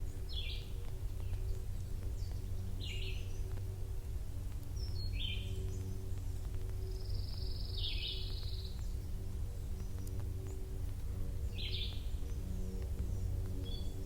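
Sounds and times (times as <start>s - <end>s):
songbird singing: 0.0s - 14.0s
steady low rumble: 0.0s - 14.0s.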